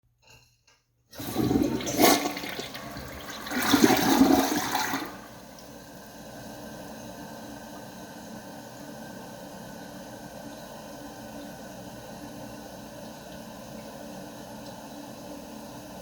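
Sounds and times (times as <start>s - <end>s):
toilet flushing: 1.1s - 16.0s.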